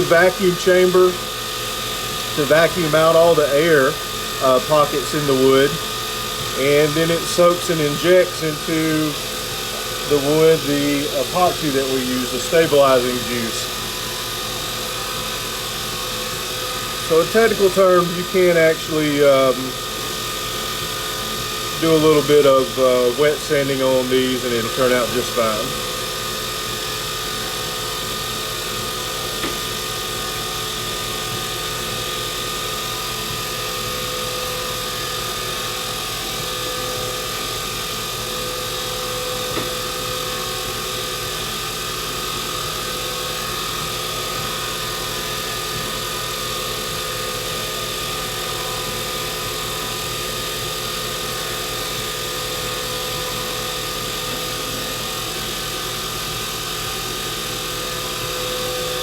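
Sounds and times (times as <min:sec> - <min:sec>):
wood lathe motor hum: 0:00.0 - 0:59.0.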